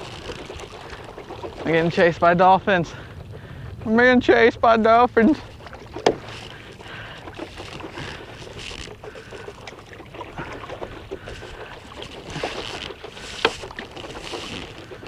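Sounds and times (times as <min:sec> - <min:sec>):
paddle splashes: 0:00.0 - 0:15.0
water splashing and lapping: 0:00.0 - 0:15.0.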